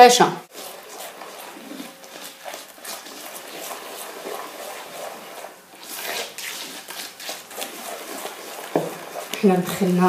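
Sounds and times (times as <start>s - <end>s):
hand squishing wet mixture in bowl: 0.0s - 10.0s.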